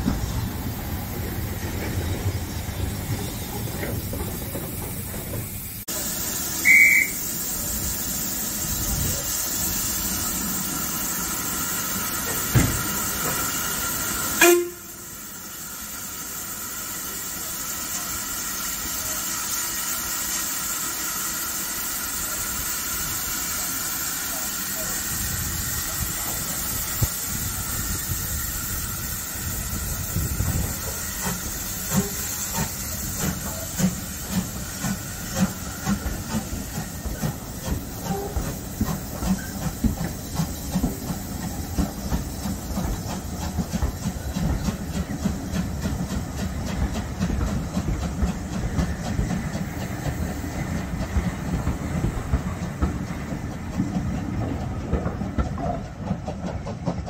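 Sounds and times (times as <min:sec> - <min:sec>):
steam hissing from locomotive: 0:00.0 - 0:57.0
train wheels clicking over rail joints: 0:00.0 - 0:57.0.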